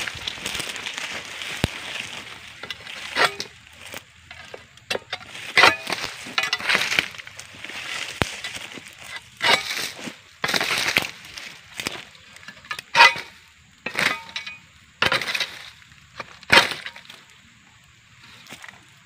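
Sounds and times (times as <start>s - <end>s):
sickle blade crunching through frond: 0.0s - 17.3s.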